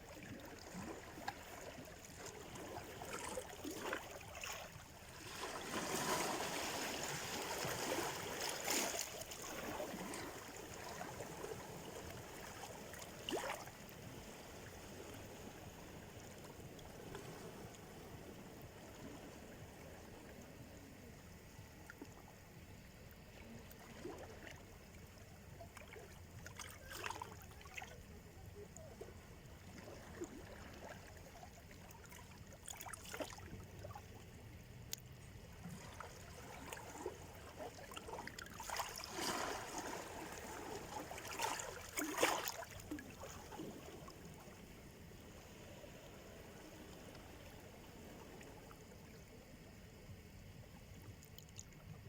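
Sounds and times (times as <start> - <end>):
waves low rumble: 0.0 - 52.0.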